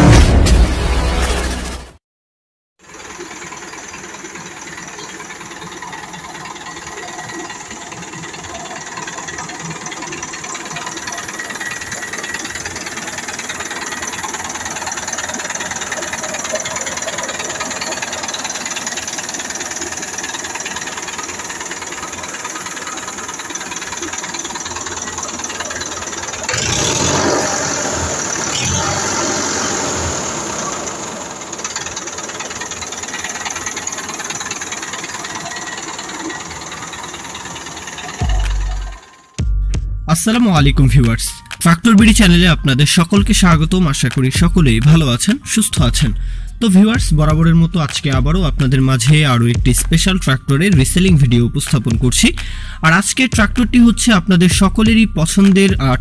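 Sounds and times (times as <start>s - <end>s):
tractor diesel engine running: 2.8s - 56.0s.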